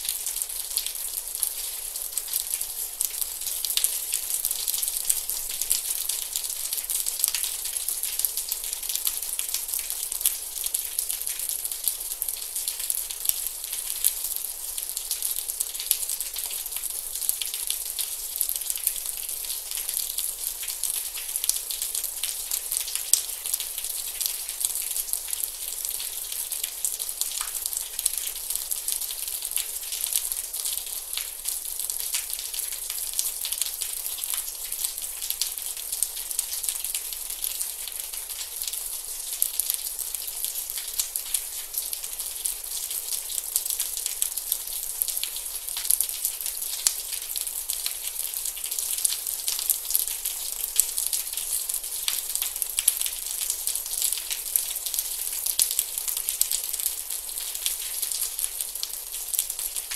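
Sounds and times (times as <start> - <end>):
gentle rain patter: 0.0 - 59.9.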